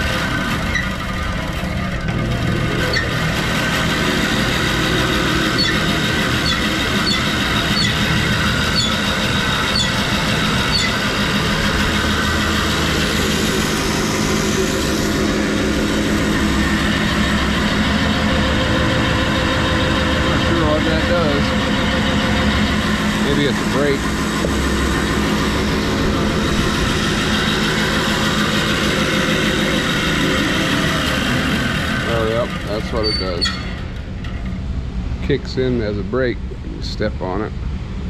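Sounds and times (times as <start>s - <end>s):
band saw humming: 0.0s - 36.6s.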